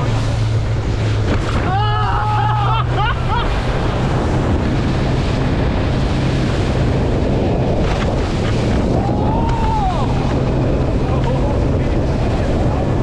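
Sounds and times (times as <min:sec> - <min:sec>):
boat motor running: 0:00.0 - 0:13.0
rushing water: 0:00.0 - 0:13.0
wind buffeting microphone: 0:00.0 - 0:13.0.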